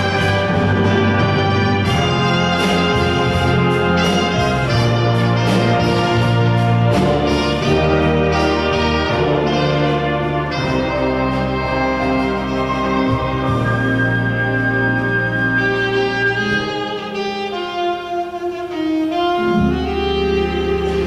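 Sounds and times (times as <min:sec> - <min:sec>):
brass chords: 0:00.0 - 0:21.0
orchestra playing: 0:00.0 - 0:21.0.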